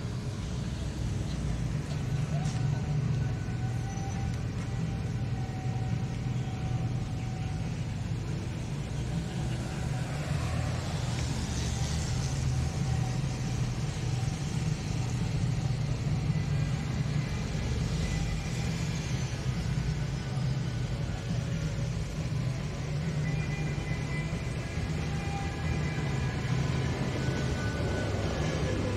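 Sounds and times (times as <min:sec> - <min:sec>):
traffic engine rumble: 0:00.0 - 0:28.9.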